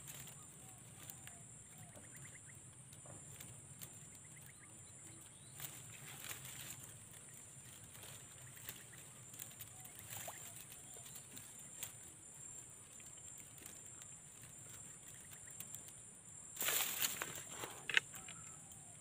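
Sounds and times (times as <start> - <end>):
small ticks and rustles: 0.0 - 19.0.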